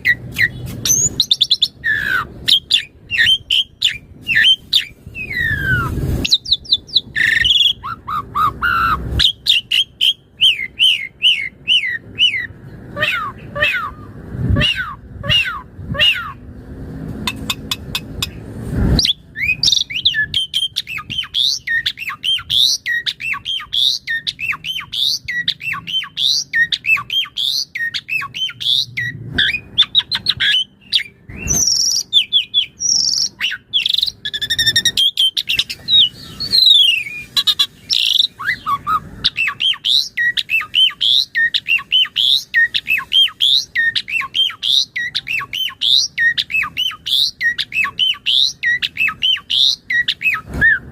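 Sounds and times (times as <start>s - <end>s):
starling singing: 0.0s - 16.6s, 17.2s - 50.9s.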